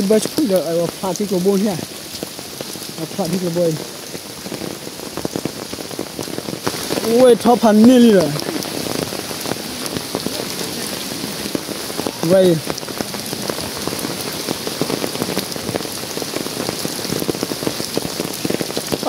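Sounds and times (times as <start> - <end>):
heavy rain falling: 0.0 - 19.0
raindrops ticking: 0.0 - 19.0.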